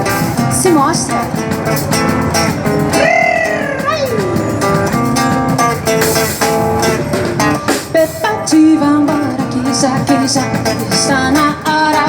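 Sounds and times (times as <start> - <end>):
live samba with guitar strumming: 0.0 - 12.0.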